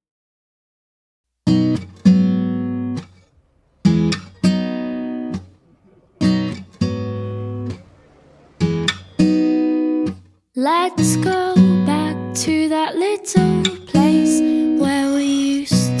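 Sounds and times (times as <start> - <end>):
acoustic guitar strumming chords: 1.4 - 16.0.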